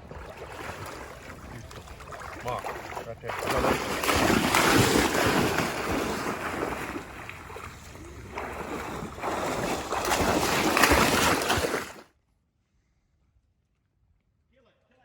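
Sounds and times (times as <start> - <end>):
water splashing and sloshing: 0.0 - 12.1.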